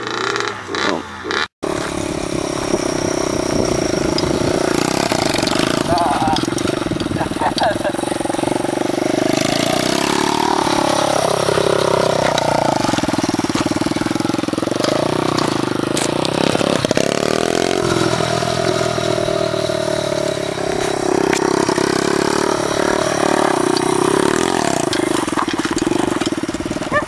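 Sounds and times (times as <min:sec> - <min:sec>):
pit bike engines revving: 0:00.0 - 0:27.0.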